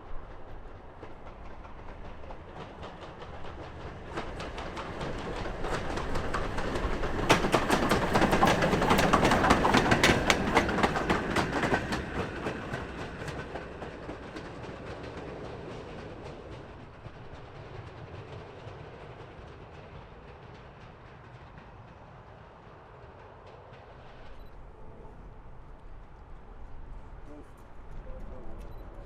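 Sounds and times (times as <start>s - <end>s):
train wheels clicking over rail joints: 0.3s - 24.8s.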